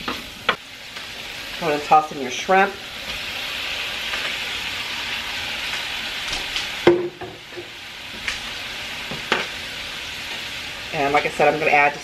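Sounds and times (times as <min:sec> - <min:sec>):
shrimp sizzling in a skillet: 0:00.0 - 0:12.0.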